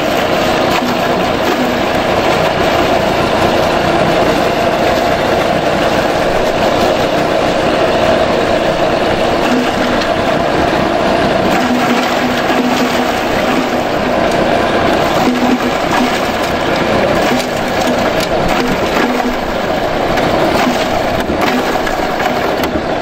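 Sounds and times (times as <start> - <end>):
grass chopper running: 0.0 - 23.0.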